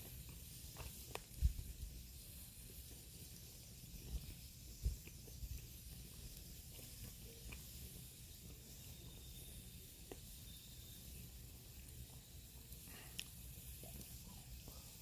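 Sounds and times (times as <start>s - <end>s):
fire hissing and crackling: 0.0s - 15.0s.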